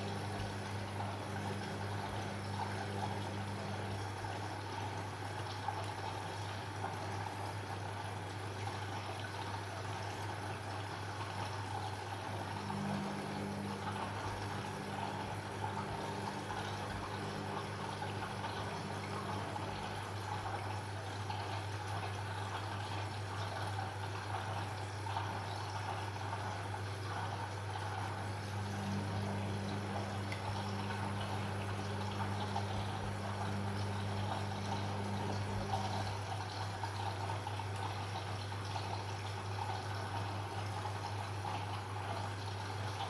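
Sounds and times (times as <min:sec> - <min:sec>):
washing machine low hum: 0:00.0 - 0:43.0
washing machine water splashing: 0:00.0 - 0:43.0.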